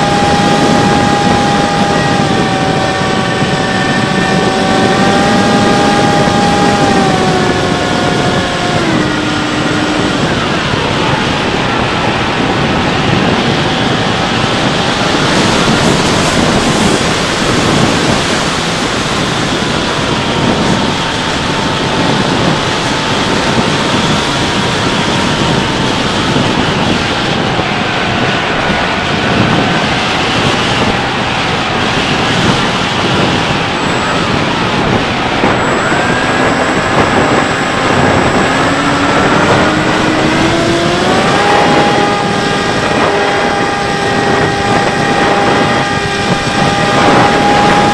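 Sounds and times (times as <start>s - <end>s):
electric motor whine: 0.0s - 47.9s
wind rushing: 0.0s - 47.9s.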